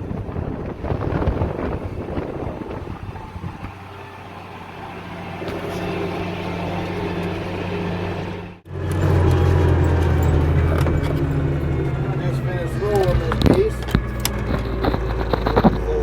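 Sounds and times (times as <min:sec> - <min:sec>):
tractor engine droning: 0:00.0 - 0:16.0.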